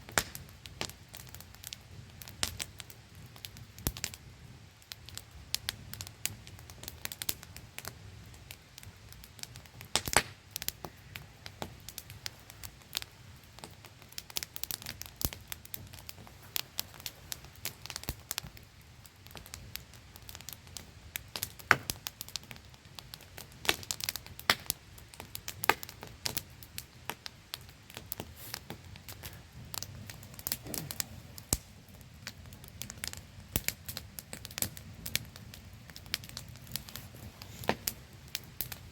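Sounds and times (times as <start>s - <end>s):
campfire crackling and snapping: 0.0s - 38.9s.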